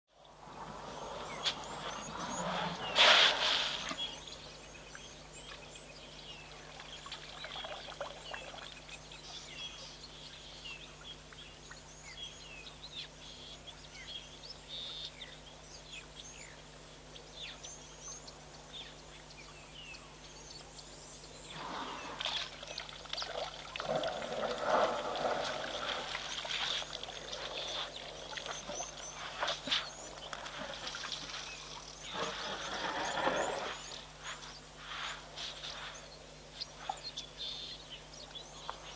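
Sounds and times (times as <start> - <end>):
faint electrical hum: 0.1 - 38.9
small birds chirping: 0.2 - 38.9.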